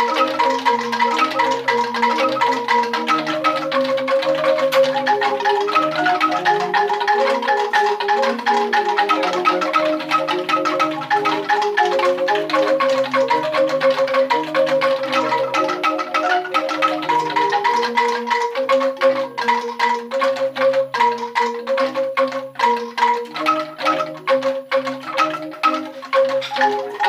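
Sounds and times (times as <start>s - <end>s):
bamboo angklung rattling melody: 0.0s - 27.0s.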